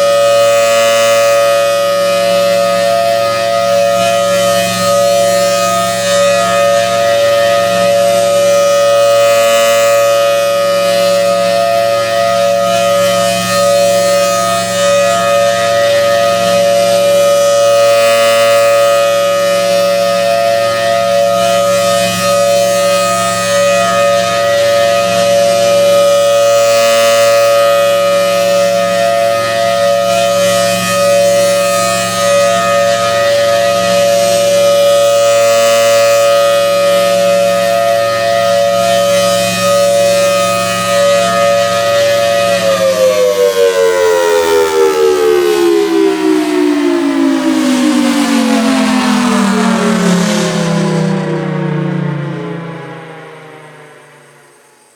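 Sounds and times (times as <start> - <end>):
warning siren two-tone chord: 0.0 - 54.9.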